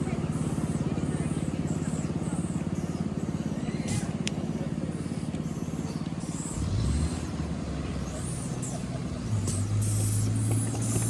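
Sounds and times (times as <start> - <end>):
miniature locomotive engine drone: 0.0 - 11.0.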